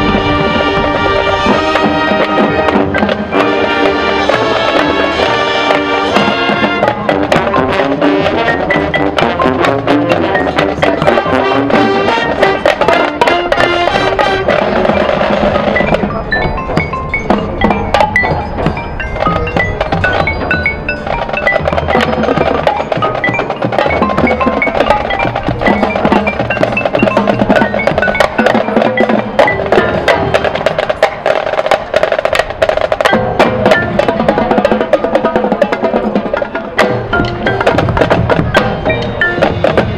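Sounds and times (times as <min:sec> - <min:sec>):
mallet percussion ringing: 0:00.0 - 0:31.9, 0:32.5 - 0:39.9
marching band playing: 0:00.0 - 0:39.9.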